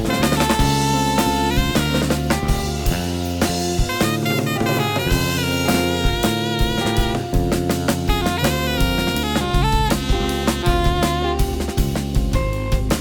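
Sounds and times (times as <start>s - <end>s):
alto saxophone: 0.0s - 13.0s
drum kit hits: 0.0s - 13.0s
electric bass: 0.0s - 13.0s
electric guitar: 0.0s - 13.0s.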